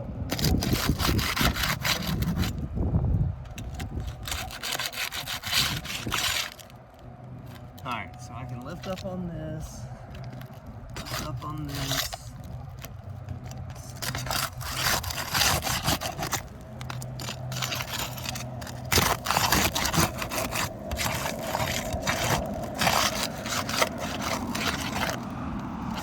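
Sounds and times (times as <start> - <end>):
roof shingle scraping and crackling: 0.3 - 2.7, 3.4 - 26.0.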